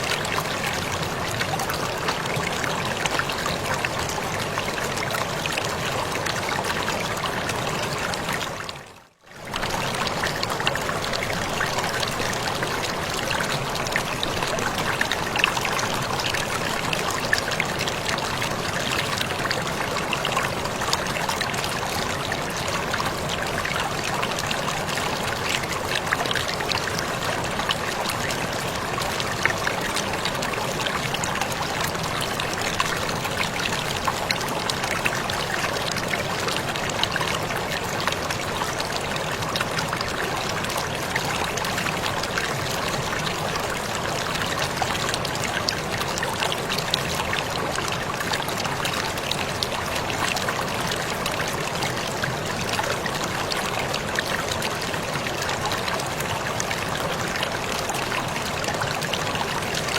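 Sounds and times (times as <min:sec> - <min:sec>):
water splashes and trickles: 0:00.0 - 0:59.9.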